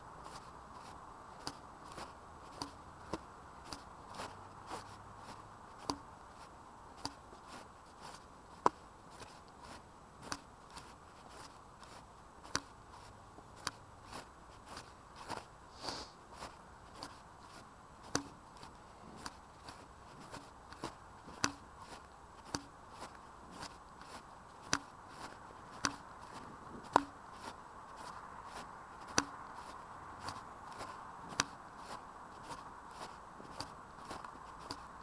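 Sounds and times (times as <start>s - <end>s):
crunching footsteps: 0.0s - 35.0s
faint steady hiss: 0.0s - 35.0s.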